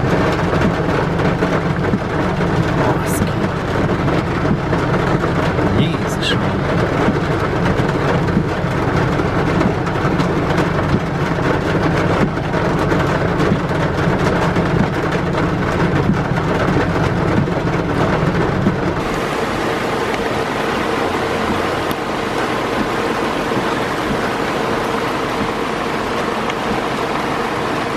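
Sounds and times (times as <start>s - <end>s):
heavy rain pouring: 0.0s - 27.9s.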